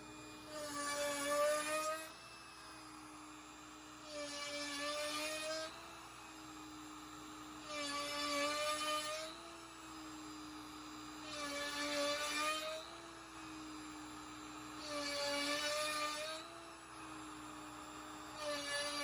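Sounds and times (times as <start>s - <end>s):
router bit cutting wood: 0.0s - 19.0s
router spindle whine: 0.0s - 19.0s.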